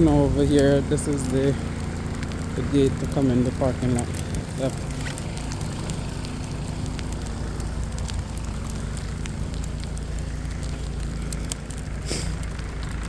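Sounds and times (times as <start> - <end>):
crackling ticks: 0.0 - 13.0.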